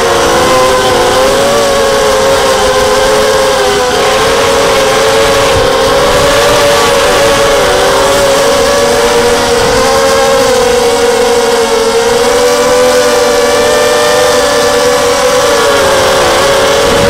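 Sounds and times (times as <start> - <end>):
drone motors whining: 0.0 - 17.0
wind rushing on microphone: 0.0 - 17.0.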